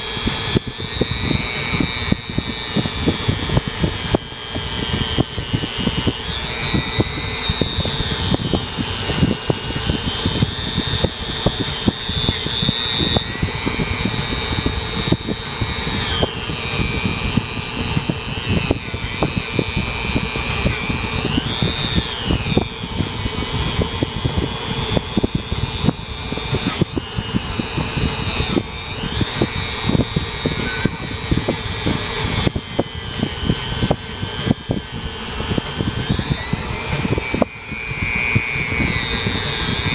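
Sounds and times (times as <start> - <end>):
rotary tool high whine: 0.0 - 39.9.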